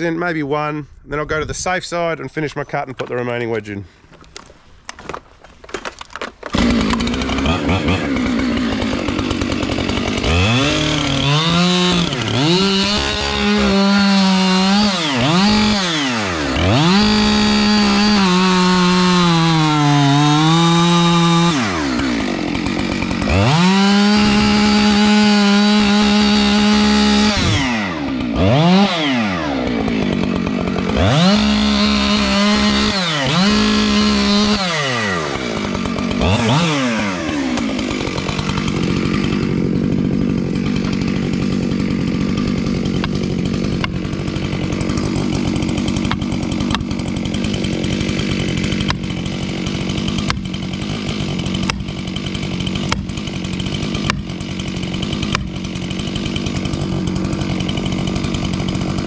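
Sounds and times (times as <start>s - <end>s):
chainsaw cutting wood: 4.1s - 59.0s.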